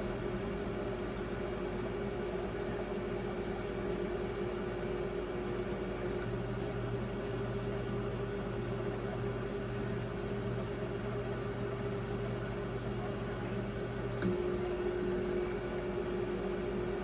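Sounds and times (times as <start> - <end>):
fan noise: 0.0 - 17.0
microwave oven humming: 0.0 - 17.0.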